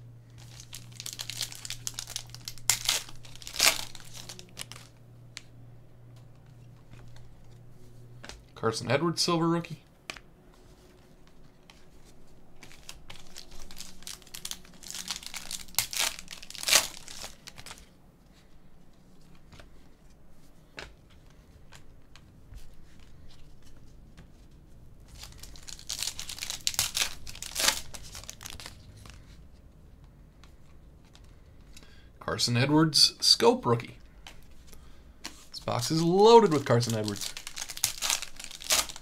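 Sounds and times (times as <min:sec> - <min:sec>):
trading cards crinkling and rustling: 0:00.2 - 0:08.6, 0:09.2 - 0:31.9, 0:34.0 - 0:39.0.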